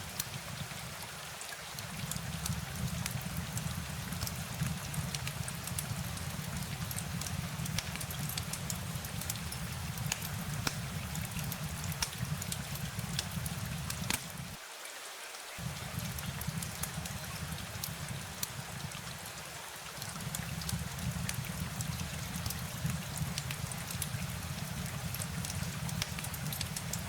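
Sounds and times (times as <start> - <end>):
rain drops ticking: 0.0 - 14.6, 15.6 - 27.0.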